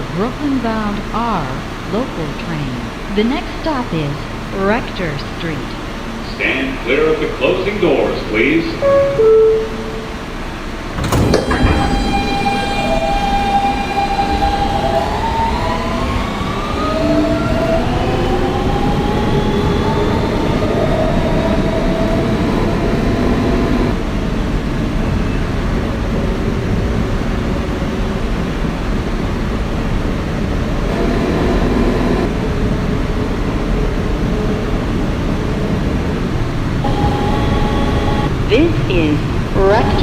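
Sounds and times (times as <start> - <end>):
subway traction motor whine: 0.0 - 40.0
wheels rumbling on rail: 0.0 - 40.0.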